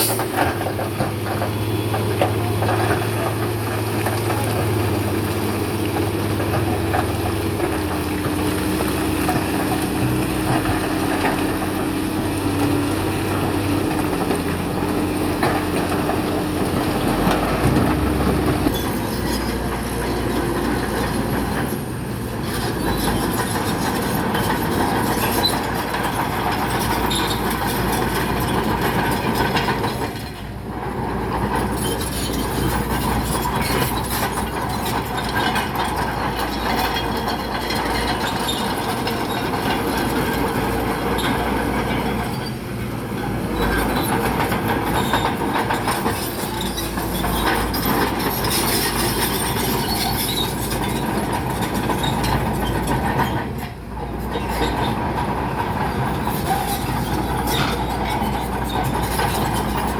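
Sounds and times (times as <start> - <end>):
bulldozer engine running: 0.0 - 59.9
steel tracks clattering: 0.0 - 59.9.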